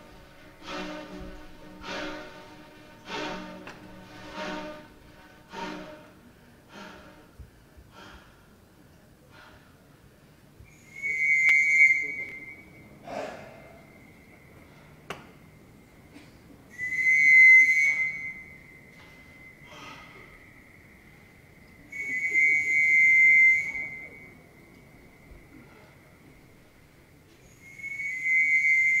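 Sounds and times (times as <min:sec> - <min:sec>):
high whistle-like tones: 0:00.0 - 0:07.2, 0:10.6 - 0:29.0.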